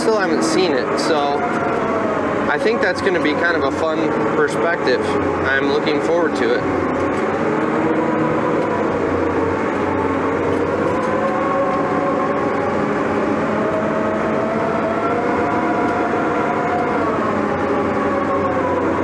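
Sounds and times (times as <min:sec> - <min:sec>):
dozer engine under load: 0:00.0 - 0:19.0
engine whine: 0:00.0 - 0:19.0.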